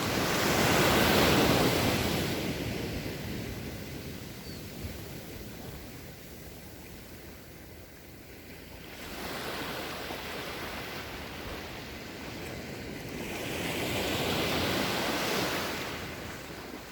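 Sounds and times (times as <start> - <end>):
sea waves breaking ashore: 0.0 - 6.4, 8.4 - 16.9.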